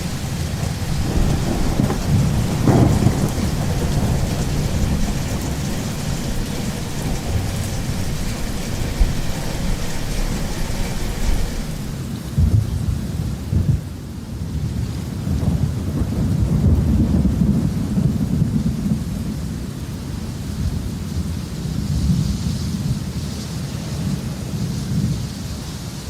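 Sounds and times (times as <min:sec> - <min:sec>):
thunder rumbling: 0:00.0 - 0:25.6
steady rain: 0:00.0 - 0:26.0.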